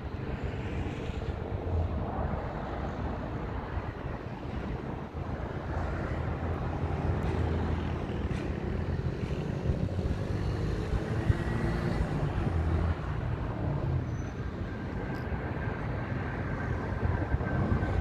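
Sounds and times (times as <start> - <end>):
jet engines rumbling: 0.0 - 11.2, 11.9 - 18.0.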